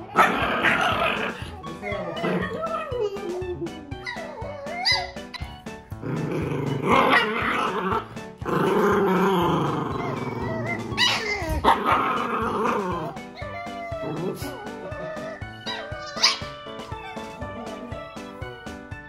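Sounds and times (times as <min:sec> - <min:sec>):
dogs growling: 0:00.0 - 0:18.1.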